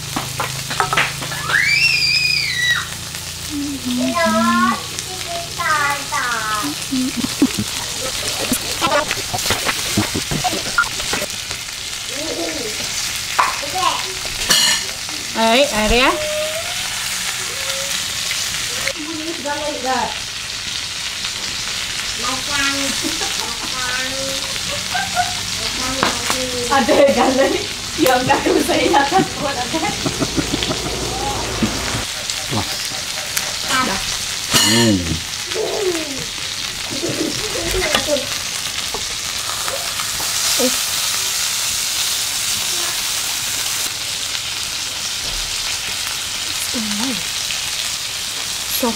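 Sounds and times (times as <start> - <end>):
food sizzling in a pan: 0.0 - 48.9.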